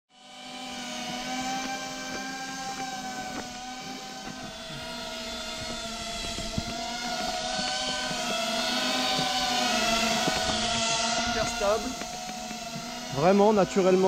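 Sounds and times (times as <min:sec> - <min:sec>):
drone propellers whining: 0:00.2 - 0:14.0.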